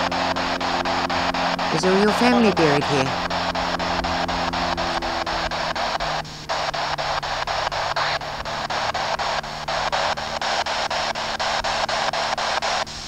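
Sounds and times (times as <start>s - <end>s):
low steady hum: 0.0s - 13.0s
radio scanner clicks: 0.0s - 13.0s
radio static hiss: 0.0s - 13.0s.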